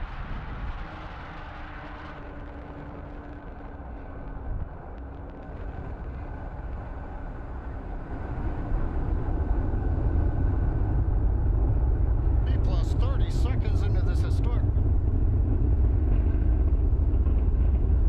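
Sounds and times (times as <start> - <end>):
rocket engines rumbling: 0.7 - 18.0.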